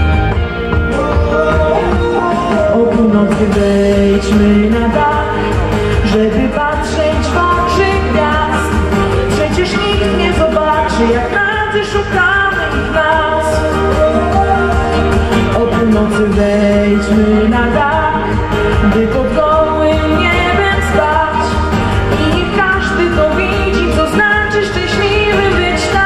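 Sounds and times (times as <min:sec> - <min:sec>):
pop music with steady beat: 0:00.0 - 0:26.0
woman singing into microphone: 0:00.8 - 0:26.0.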